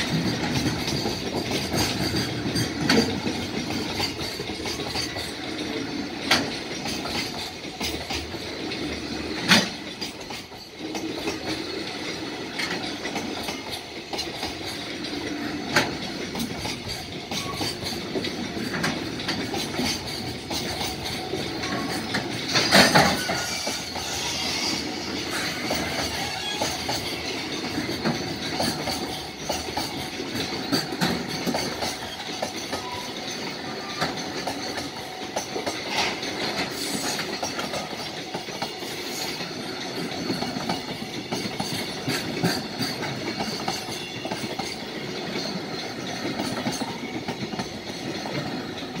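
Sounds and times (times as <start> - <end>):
freight train wheels rumbling: 0.0 - 49.0
wheels clacking over rail joints: 0.0 - 49.0.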